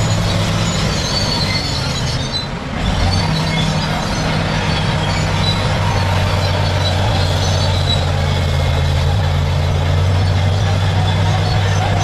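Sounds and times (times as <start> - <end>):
bulldozer diesel engine running: 0.0 - 12.0
steel tracks squealing: 0.0 - 12.0.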